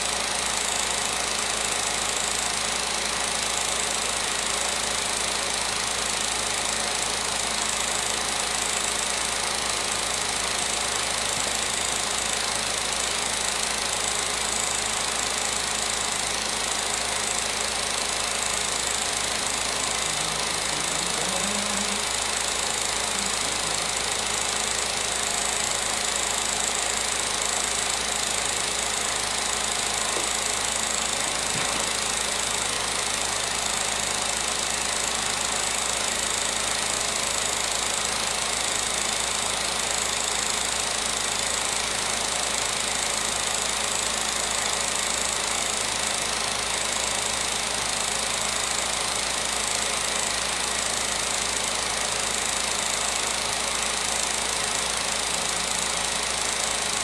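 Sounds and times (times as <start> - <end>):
film projector whirring: 0.0 - 57.0.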